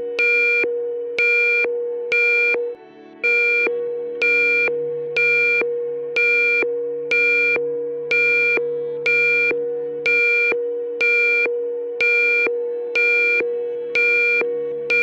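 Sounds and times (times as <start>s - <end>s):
buzzy electronic alarm beeps: 0.0s - 15.0s
low hum: 0.0s - 15.0s
steady held tone: 0.0s - 15.0s.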